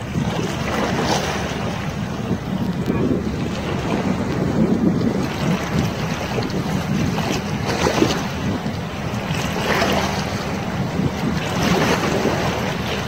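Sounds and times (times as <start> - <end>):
small waves sloshing: 0.0 - 13.0
wind buffeting microphone: 0.0 - 13.0.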